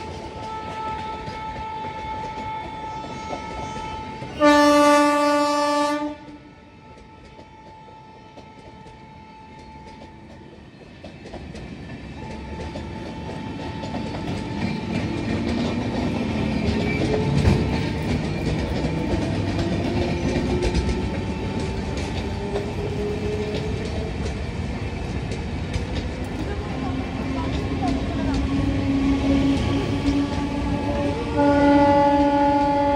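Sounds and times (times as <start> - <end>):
wheels clicking over rail joints: 0.0 - 5.5, 6.2 - 32.9
train coaches rolling past: 0.0 - 32.9.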